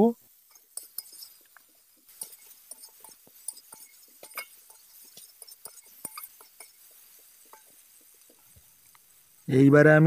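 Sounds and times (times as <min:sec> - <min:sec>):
metal spatula scraping a pan: 0:00.1 - 0:09.5.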